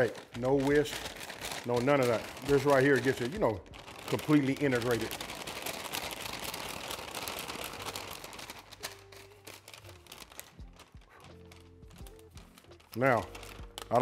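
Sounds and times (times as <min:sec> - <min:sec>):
paper bag rustling: 0:00.0 - 0:14.0.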